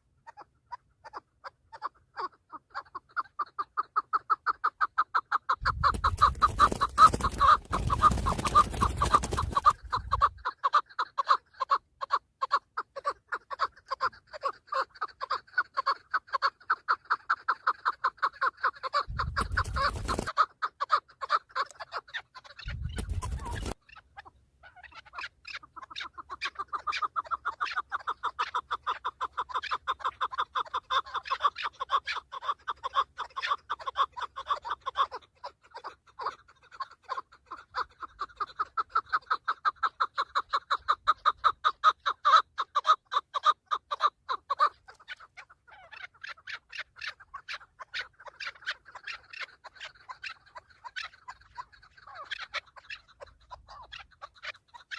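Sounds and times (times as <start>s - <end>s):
partridge clucking call: 0.0s - 54.9s.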